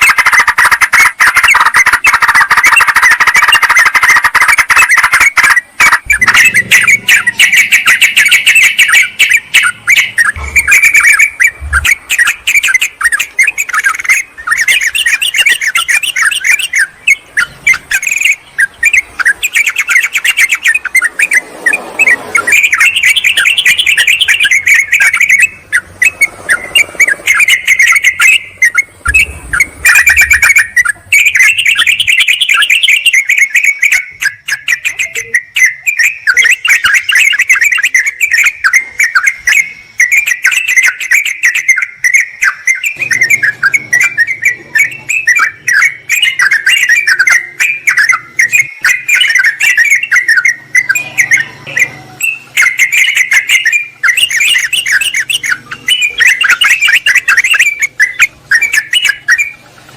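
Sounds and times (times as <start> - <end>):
bulbuls chirping in chorus: 0.0 - 59.9.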